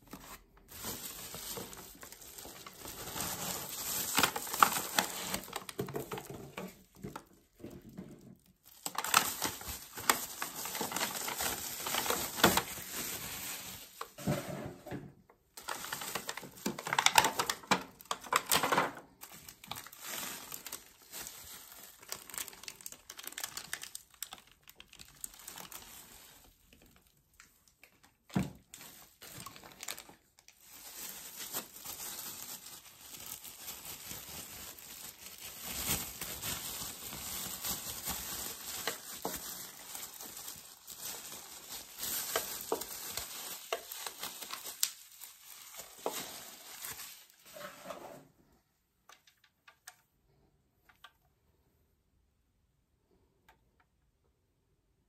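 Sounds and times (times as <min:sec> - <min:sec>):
bubble wrap and cardboard crinkling: 0:00.0 - 0:48.0.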